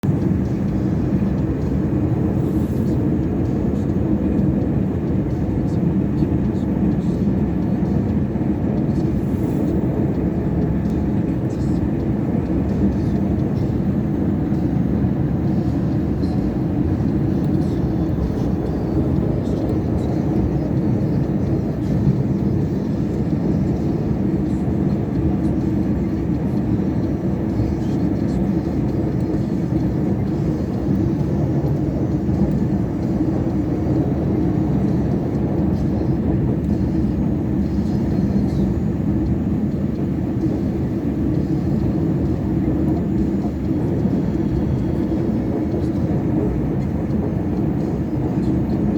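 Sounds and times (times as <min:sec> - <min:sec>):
road noise: 0:00.0 - 0:48.9
truck engine drone: 0:00.0 - 0:48.9.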